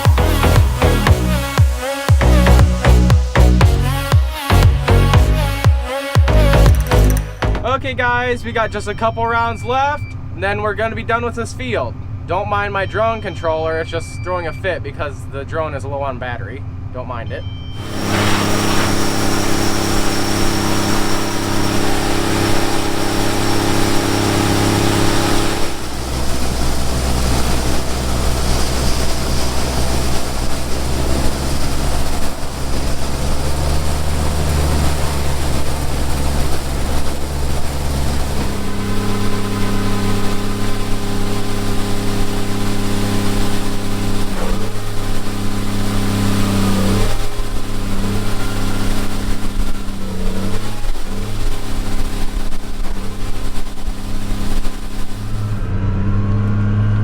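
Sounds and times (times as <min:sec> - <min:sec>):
farm machinery engine droning: 0:00.0 - 0:05.7, 0:06.3 - 0:57.0.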